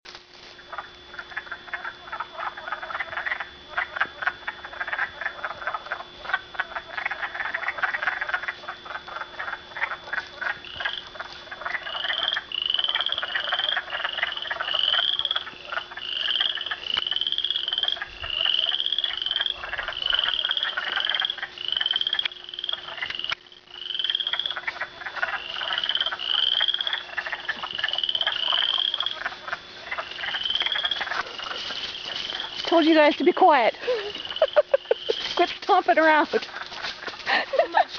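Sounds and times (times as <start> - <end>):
chorus of frogs croaking: 0.6 - 37.9.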